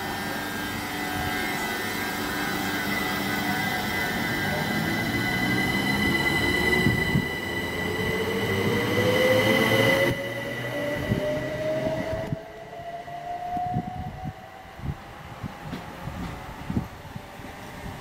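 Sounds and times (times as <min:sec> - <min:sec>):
high-pitched whine: 0:00.0 - 0:15.3
train traction motors whining: 0:00.0 - 0:18.0
rumble of train carriages: 0:00.3 - 0:18.0.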